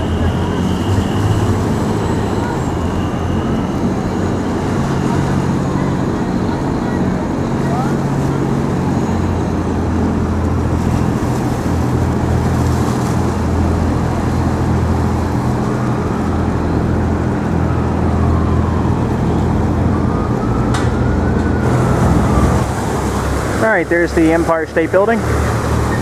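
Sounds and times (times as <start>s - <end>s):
engine drone: 0.0s - 26.0s
traffic noise: 0.0s - 26.0s.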